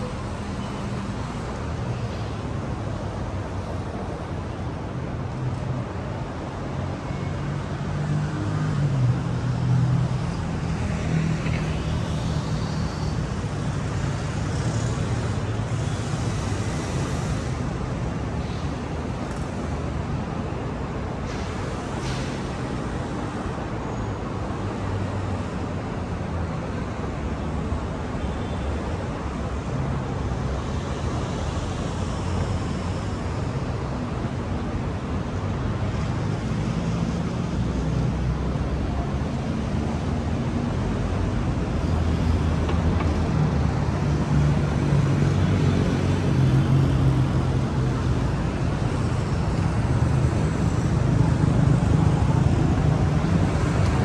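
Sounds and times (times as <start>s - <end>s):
street traffic passing: 0.0s - 54.0s.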